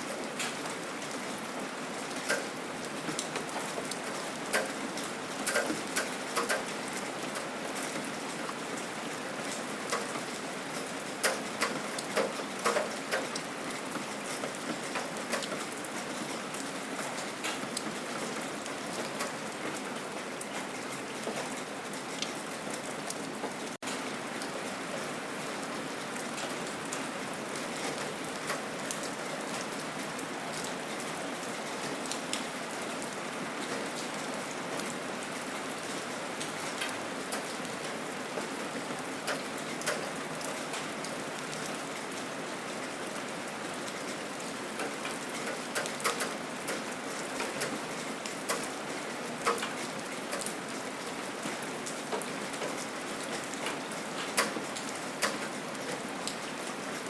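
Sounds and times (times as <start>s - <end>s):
gentle rain falling: 0.0s - 57.0s
raindrops ticking close by: 0.1s - 57.0s.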